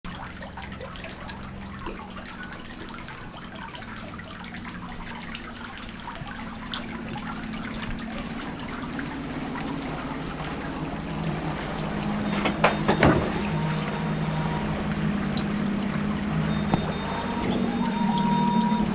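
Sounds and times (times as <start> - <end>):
water drips and splashes: 0.0 - 18.9
water lapping against hull: 0.0 - 18.9
low engine hum: 0.1 - 18.9.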